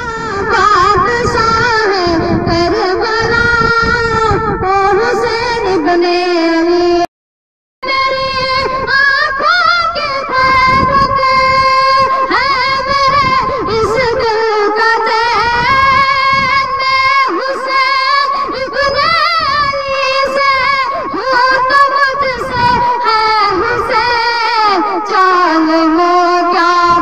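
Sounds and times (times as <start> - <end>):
boy singing into a microphone: 0.0 - 7.1, 7.8 - 27.0.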